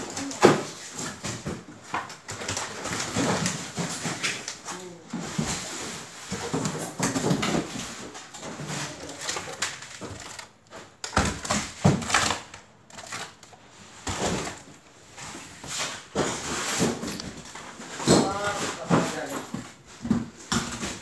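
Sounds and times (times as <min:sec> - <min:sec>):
plastic containers clacking and scraping: 0:00.0 - 0:21.0.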